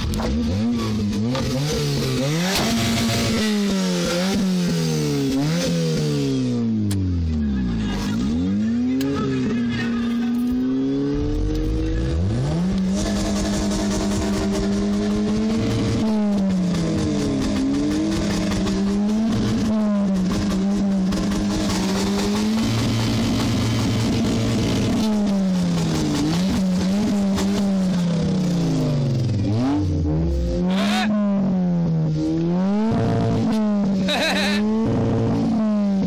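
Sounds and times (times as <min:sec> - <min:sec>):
car engine revving hard: 0:00.0 - 0:06.7, 0:07.8 - 0:36.0.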